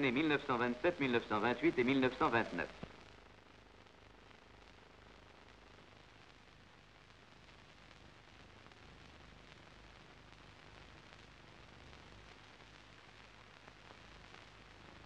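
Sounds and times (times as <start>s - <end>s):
faint film soundtrack hiss: 0.0s - 15.0s.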